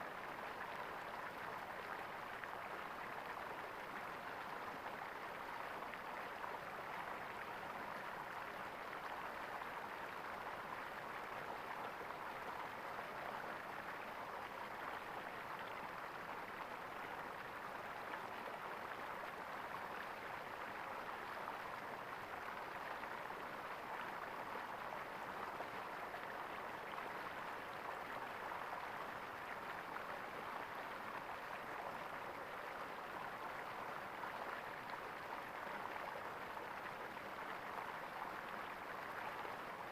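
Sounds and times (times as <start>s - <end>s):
flowing water gurgling: 0.0s - 39.9s.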